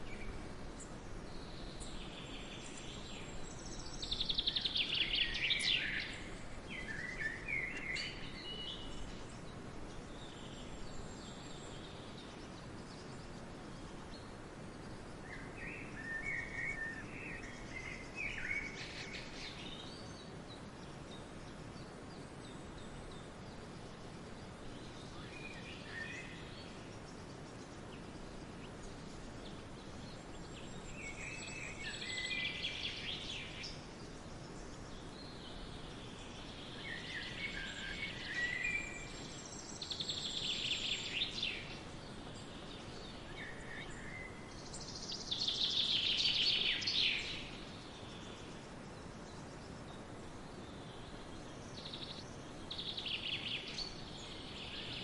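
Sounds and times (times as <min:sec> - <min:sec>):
outdoor background hiss: 0:00.0 - 0:55.0
songbirds singing: 0:00.0 - 0:55.0.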